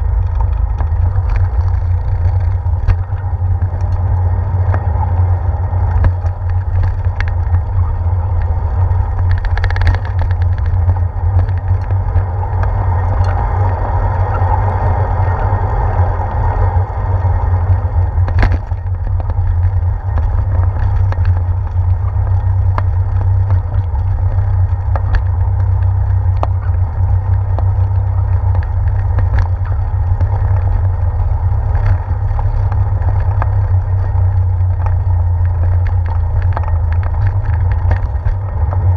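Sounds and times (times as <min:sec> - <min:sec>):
bicycle wheels knocking on bumps: 0:00.0 - 0:13.7, 0:17.8 - 0:38.9
wind and road rumble: 0:00.0 - 0:38.9.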